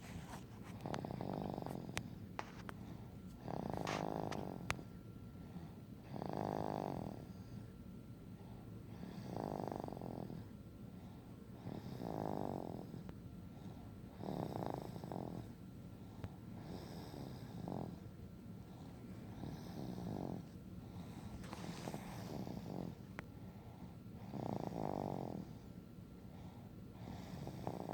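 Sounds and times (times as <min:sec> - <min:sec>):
quiet breathing: 0:00.0 - 0:27.9.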